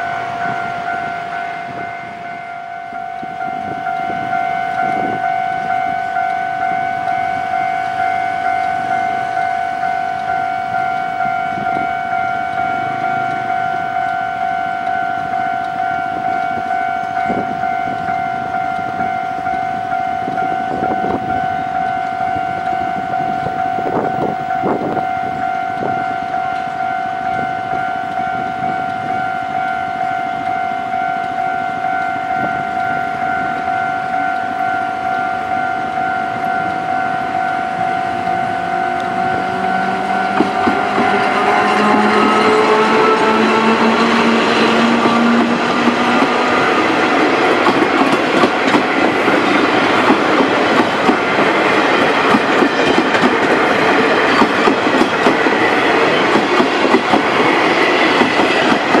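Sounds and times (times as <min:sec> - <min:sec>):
approaching train rumble: 0:00.0 - 0:59.0
level crossing warning bell: 0:00.0 - 0:59.0
rising whine of locomotive: 0:00.0 - 0:59.0.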